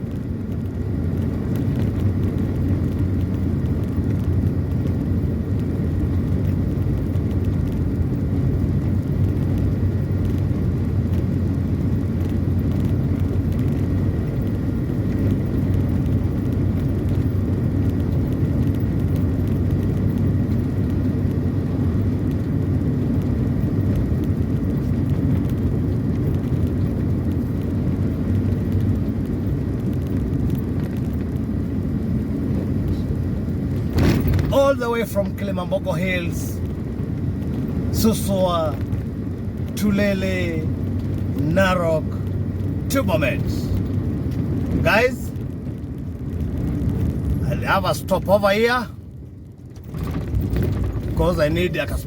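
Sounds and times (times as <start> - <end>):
car engine and tyres rumbling: 0.0 - 52.0.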